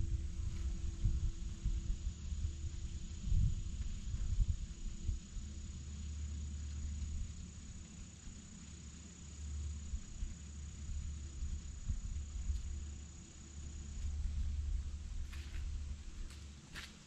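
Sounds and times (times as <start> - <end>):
crickets trilling: 0.0 - 17.0
low uneven rumble: 0.0 - 17.0.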